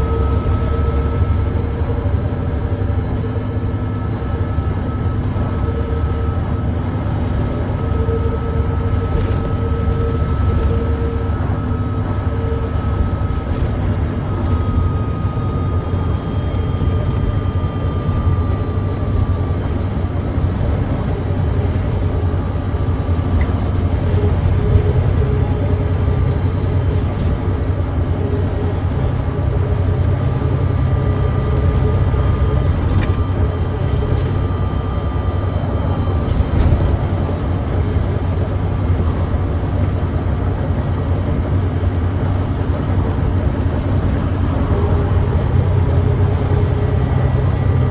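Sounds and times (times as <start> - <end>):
bus diesel engine running: 0.0 - 47.9.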